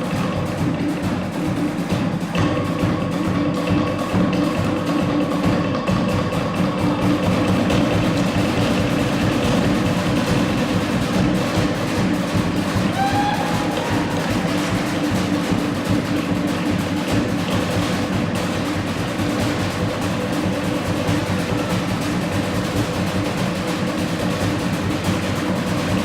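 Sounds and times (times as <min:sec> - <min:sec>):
background music with percussion: 0:00.0 - 0:26.0.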